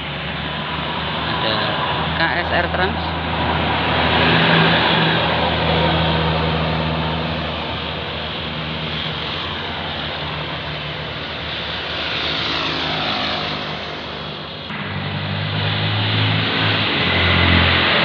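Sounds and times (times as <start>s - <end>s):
bus passing: 0.0s - 18.0s
heavy engine rumble: 0.0s - 18.0s.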